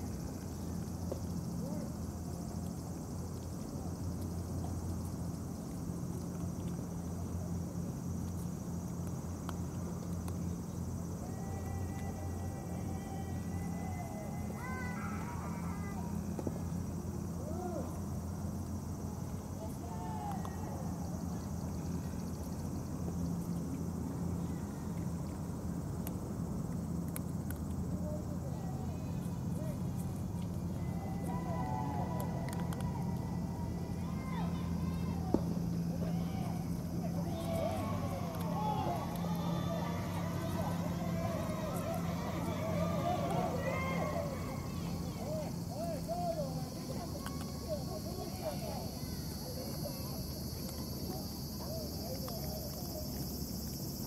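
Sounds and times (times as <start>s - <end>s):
low steady hum: 0.0s - 54.0s
outdoor background rumble: 0.0s - 54.0s.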